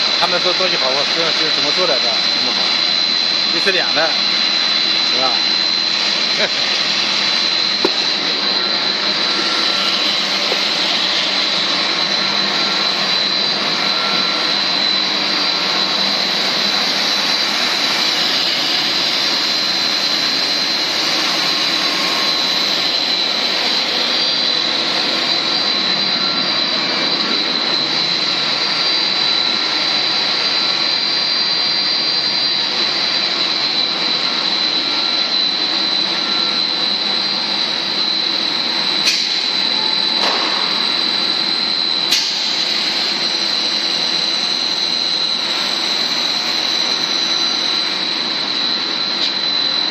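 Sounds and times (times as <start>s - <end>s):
constant high whine: 0.0s - 49.9s
extrusion machinery running: 0.0s - 49.9s.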